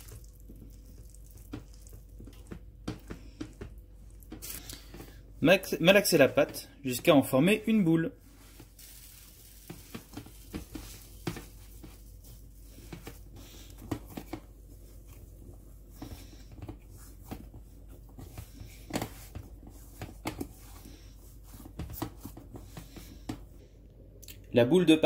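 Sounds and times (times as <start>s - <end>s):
dough squishing in a bowl: 0.0s - 23.6s.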